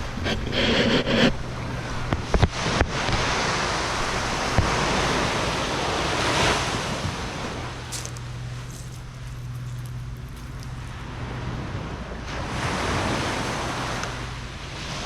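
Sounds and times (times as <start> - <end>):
waves washing in: 0.0 - 15.0.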